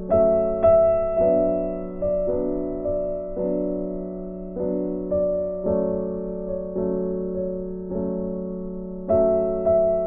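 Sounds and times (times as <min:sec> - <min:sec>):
slow soft piano music: 0:00.0 - 0:10.0.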